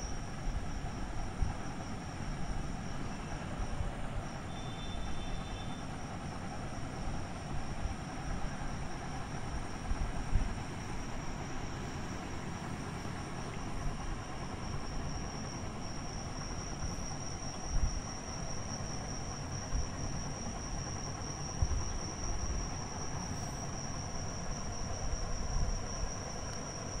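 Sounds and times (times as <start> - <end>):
background hiss and rumble: 0.0 - 27.0
high-pitched whine: 0.0 - 27.0.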